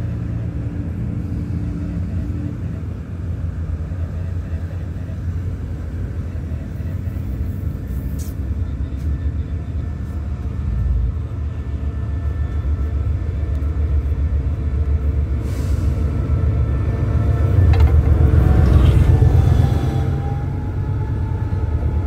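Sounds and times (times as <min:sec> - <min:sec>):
diesel locomotive engine rumble: 0:00.0 - 0:22.0.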